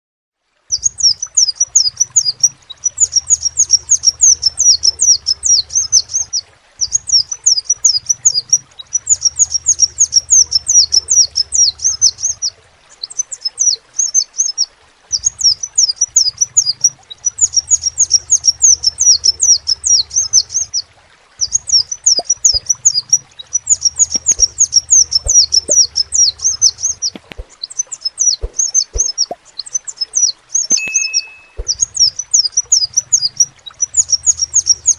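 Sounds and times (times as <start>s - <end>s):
bird singing high thin chirps: 0.7s - 20.8s, 21.4s - 34.9s.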